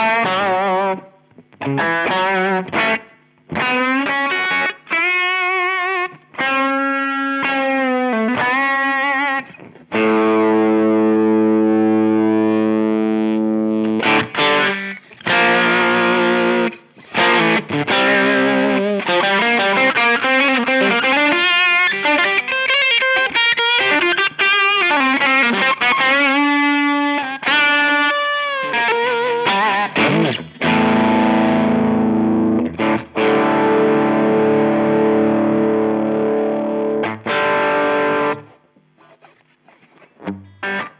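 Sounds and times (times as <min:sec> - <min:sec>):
distorted electric guitar: 0:00.0 - 0:40.9.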